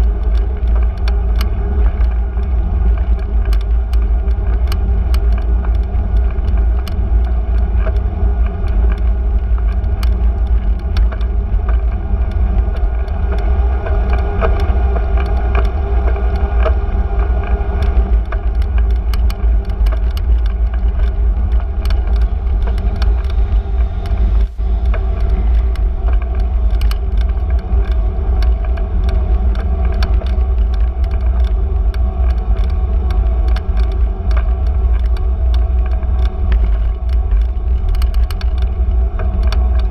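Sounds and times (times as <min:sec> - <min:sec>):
bicycle rumble and rattles: 0:00.0 - 0:39.9.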